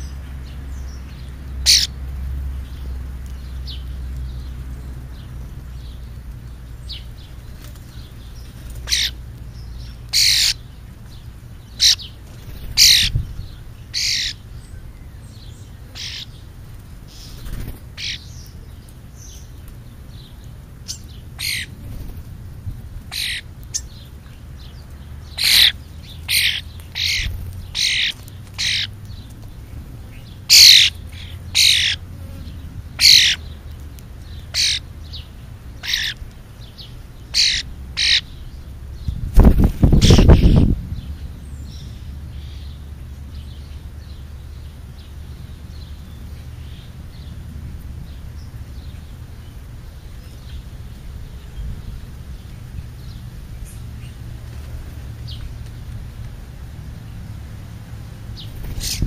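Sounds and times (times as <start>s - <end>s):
birds giving harsh calls: 0.0s - 4.6s, 5.2s - 47.3s, 58.2s - 59.0s.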